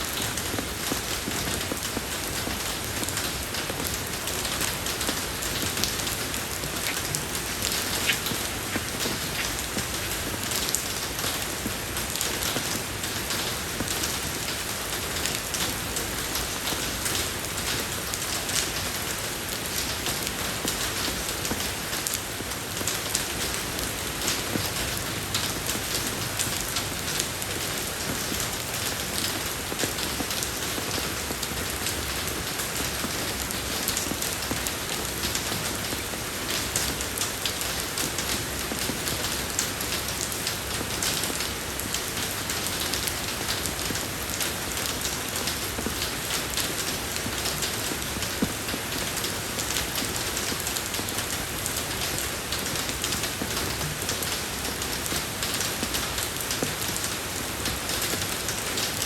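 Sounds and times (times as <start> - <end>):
rain hissing on road: 0.0 - 59.0
raindrop ticks: 0.0 - 59.0.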